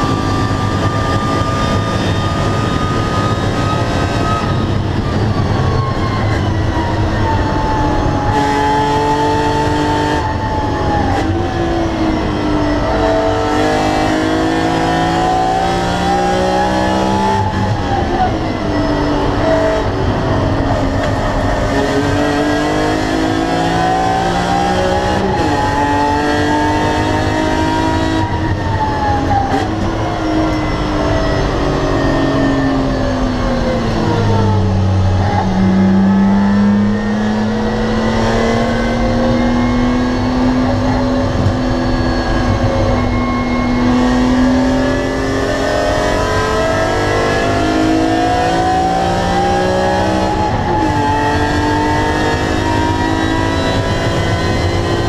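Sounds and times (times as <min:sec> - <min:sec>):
car engine accelerating hard: 0:00.0 - 0:55.0.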